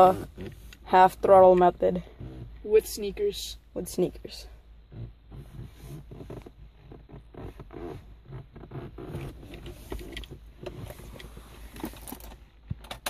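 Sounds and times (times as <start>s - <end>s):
creaks and rustles in car cabin: 0.0s - 13.0s.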